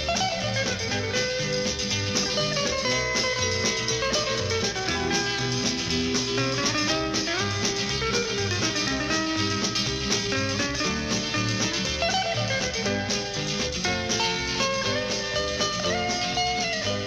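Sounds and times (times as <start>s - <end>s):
plucked guitar music: 0.0s - 17.0s
steady bass line: 0.0s - 17.0s.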